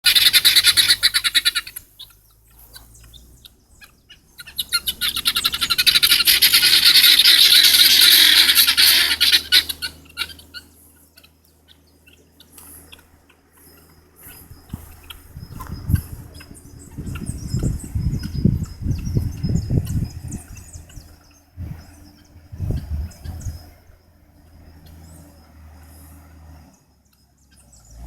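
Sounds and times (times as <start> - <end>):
guineafowl cackling: 0.0 - 26.3.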